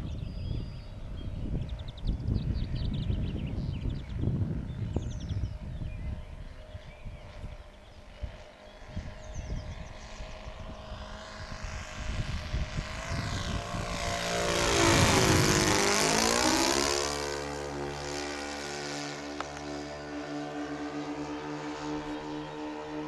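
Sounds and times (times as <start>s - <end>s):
model airplane engines fly-by: 0.0s - 23.0s.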